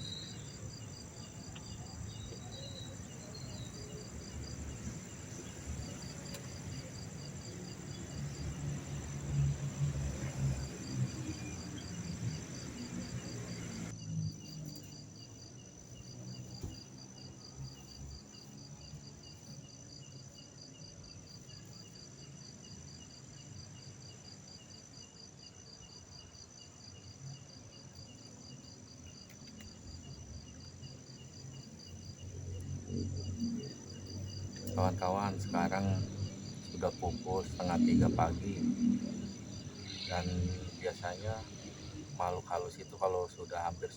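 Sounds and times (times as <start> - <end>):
insects chirping: 0.0 - 43.9.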